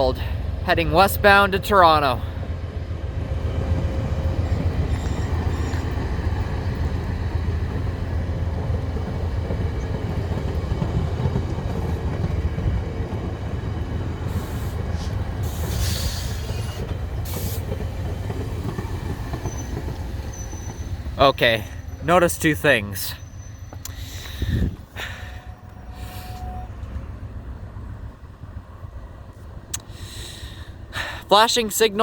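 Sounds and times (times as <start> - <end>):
train rumbling over rails: 0.0 - 32.0.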